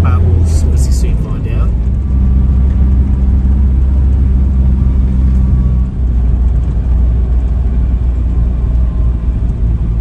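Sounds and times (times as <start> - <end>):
van engine and road rumble: 0.0 - 10.0.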